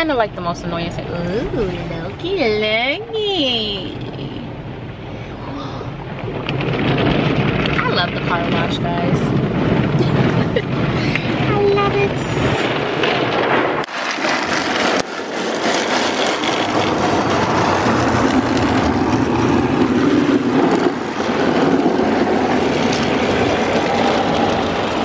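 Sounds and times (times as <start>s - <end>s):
car wash water spraying: 4.1s - 25.0s.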